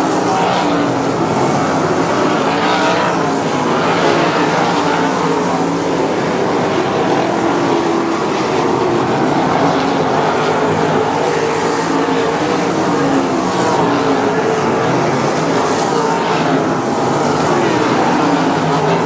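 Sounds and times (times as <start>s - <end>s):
race car engines roaring: 0.0s - 19.0s.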